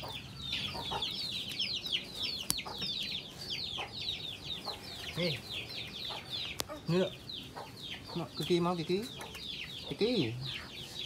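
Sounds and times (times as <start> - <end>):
young birds peeping: 0.0 - 11.0.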